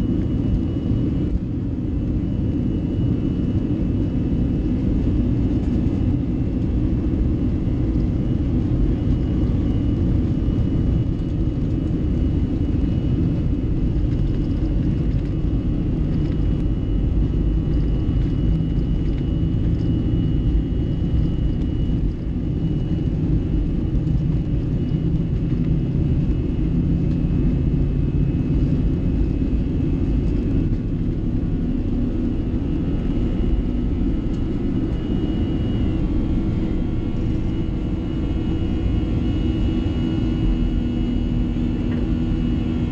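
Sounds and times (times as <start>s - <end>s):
high fan whine: 0.0s - 42.9s
jet engines and wheels rumbling: 0.0s - 42.9s.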